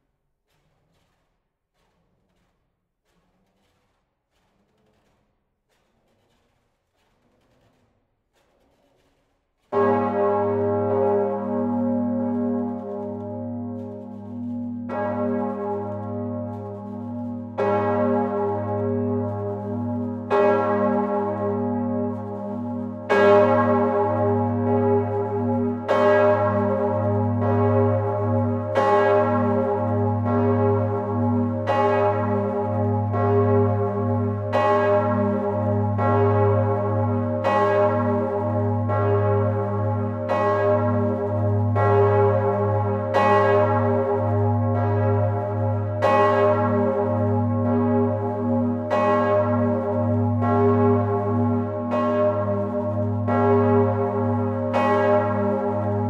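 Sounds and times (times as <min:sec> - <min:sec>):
church bell strokes: 0:09.7 - 0:56.0
deep continuous bell hum: 0:09.8 - 0:56.0.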